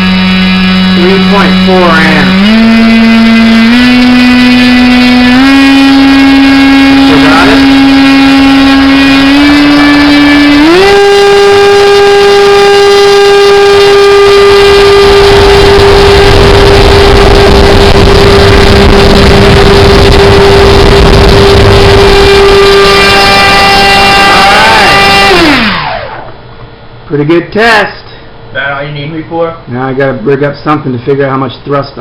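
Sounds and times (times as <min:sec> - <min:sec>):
electric motor whining: 0:00.0 - 0:26.4.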